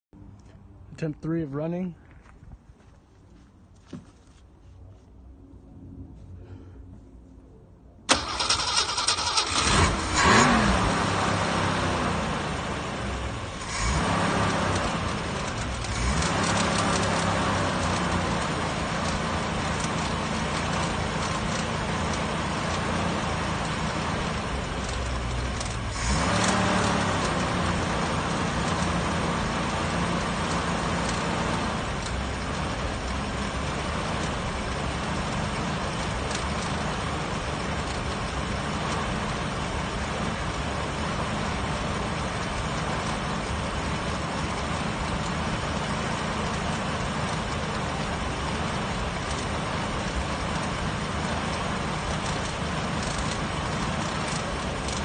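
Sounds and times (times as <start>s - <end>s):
car engine starting and revving: 8.1s - 55.0s.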